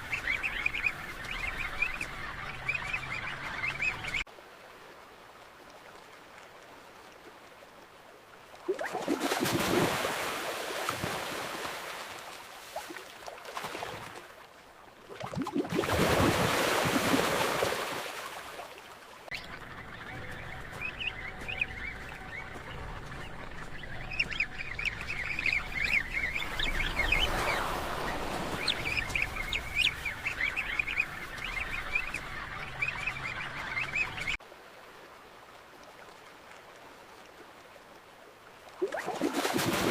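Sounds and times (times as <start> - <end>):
water splashes: 0.0 - 39.9.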